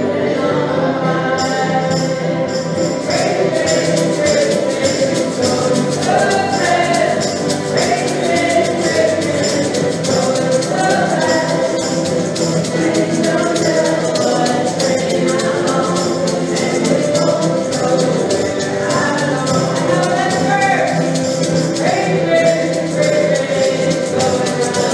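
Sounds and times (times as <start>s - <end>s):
acoustic guitars strumming: 0.0s - 24.9s
group of people singing: 0.0s - 24.9s
tambourine shaking: 1.4s - 24.9s.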